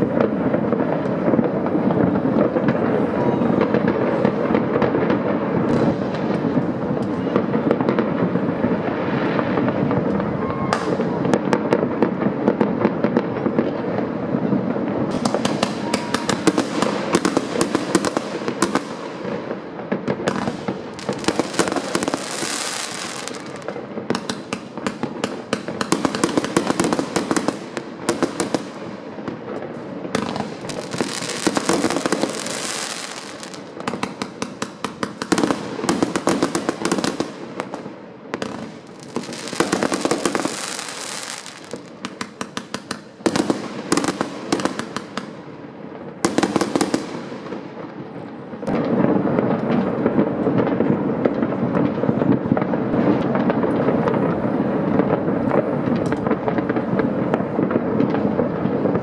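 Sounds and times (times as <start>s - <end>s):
fireworks bangs and pops: 0.0s - 59.0s
fireworks crackling: 0.0s - 59.0s.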